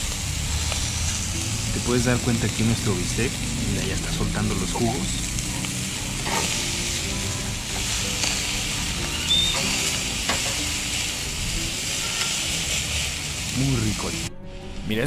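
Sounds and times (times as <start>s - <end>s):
sharp crackles: 0.0s - 14.3s
steaks sizzling on a grill: 0.0s - 14.3s.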